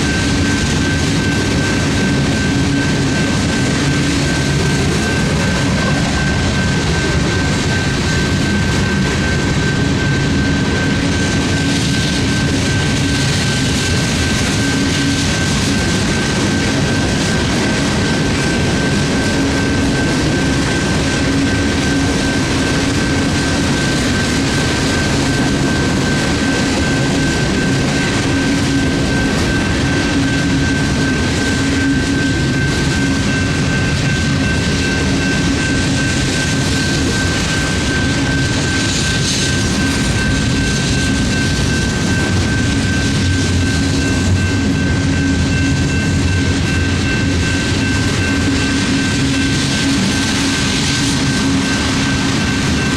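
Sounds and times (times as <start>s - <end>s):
steady high-pitched tone: 0.0s - 52.9s
train wheels rumbling on rail: 0.0s - 52.9s.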